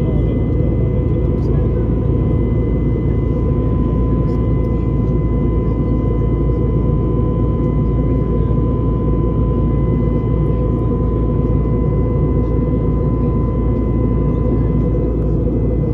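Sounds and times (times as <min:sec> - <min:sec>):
airplane cabin low rumble: 0:00.0 - 0:15.9.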